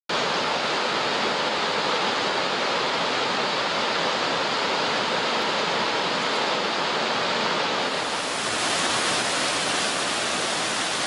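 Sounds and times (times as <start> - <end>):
waterfall rushing: 0.1 - 11.0.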